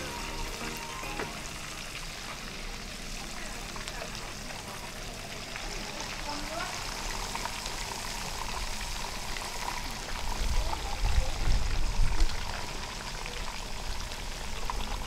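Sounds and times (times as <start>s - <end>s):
fish deep-frying in oil: 0.0s - 15.0s.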